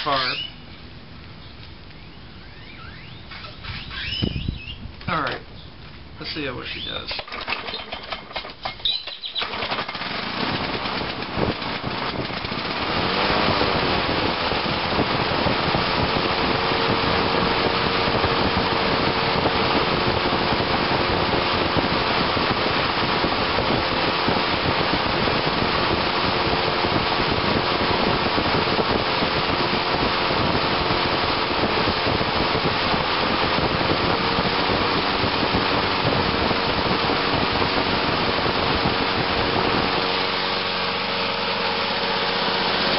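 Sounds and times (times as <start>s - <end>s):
mower engine running: 6.6s - 42.9s
recoil starter pulls: 6.6s - 42.9s.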